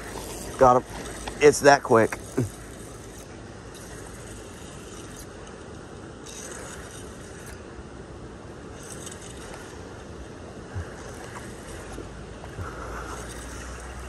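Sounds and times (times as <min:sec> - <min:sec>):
fishing reel gears whirring: 0:00.0 - 0:14.0.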